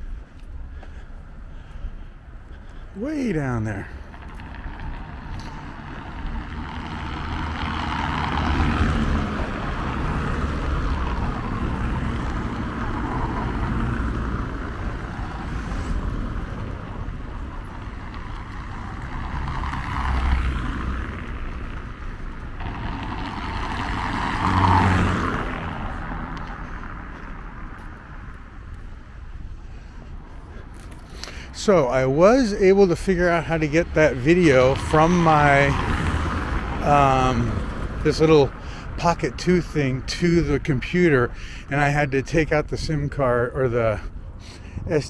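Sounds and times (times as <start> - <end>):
cars passing: 0.0 - 45.0.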